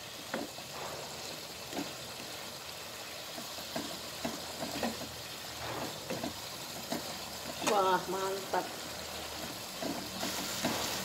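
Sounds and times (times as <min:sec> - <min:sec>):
stir-fry sizzling in a pan: 0:00.0 - 0:11.0.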